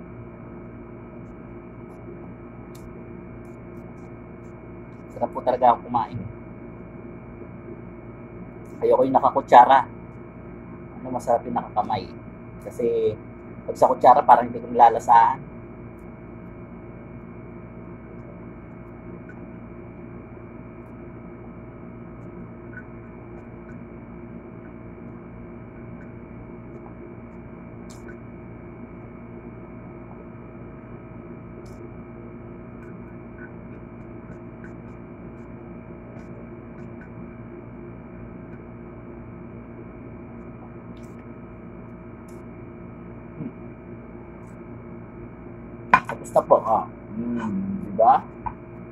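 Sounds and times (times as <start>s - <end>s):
steady hum with held tones: 0.0s - 48.9s.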